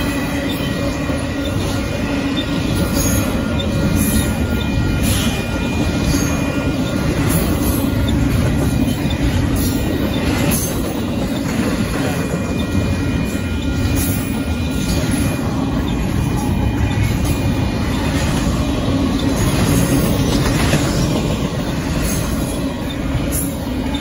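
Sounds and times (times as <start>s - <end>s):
freight train wheels rumbling: 0.0s - 24.0s
train wheel clacks: 0.0s - 24.0s.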